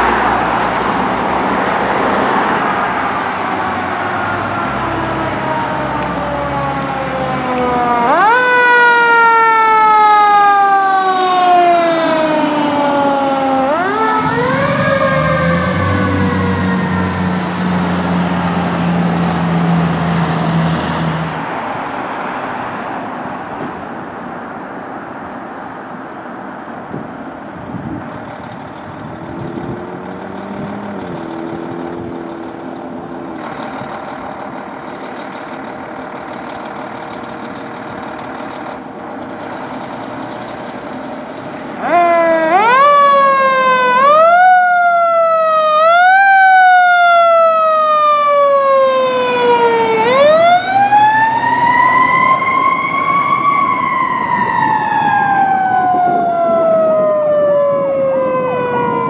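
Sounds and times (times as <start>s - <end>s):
fire truck siren wailing: 0.0s - 23.2s, 27.6s - 59.0s.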